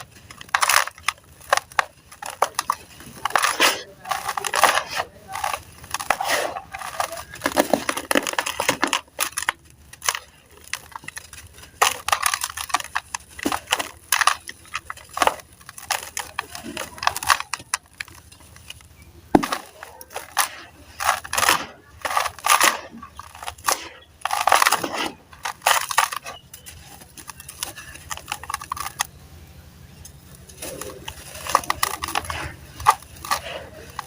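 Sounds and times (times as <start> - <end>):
slabs crushed by hand crunching: 0.0 - 29.1.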